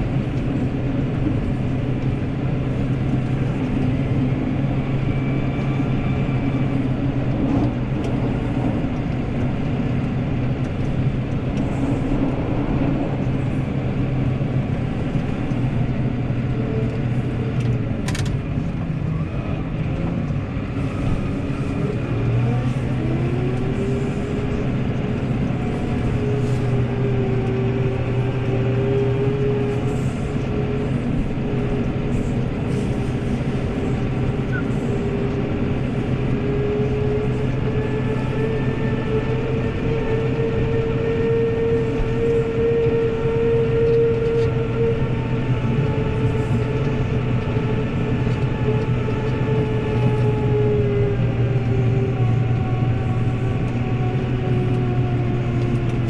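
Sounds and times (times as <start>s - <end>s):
tractor engine running: 0.0s - 56.0s
whine: 0.0s - 56.0s.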